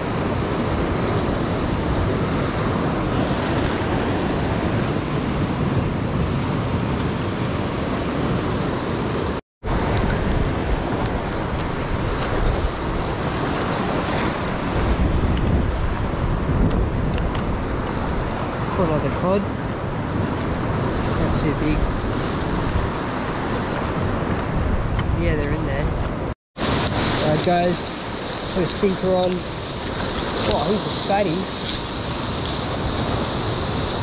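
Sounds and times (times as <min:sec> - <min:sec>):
ocean surf breaking on rocks: 0:00.0 - 0:34.0.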